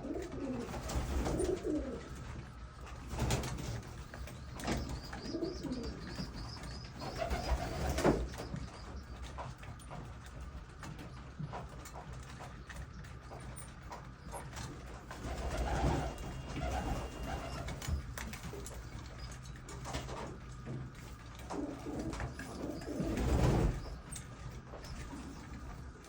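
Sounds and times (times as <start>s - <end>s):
pigeons cooing: 0.0s - 9.1s, 12.6s - 20.3s, 21.3s - 25.8s
faint clicks of birds moving: 0.0s - 26.0s.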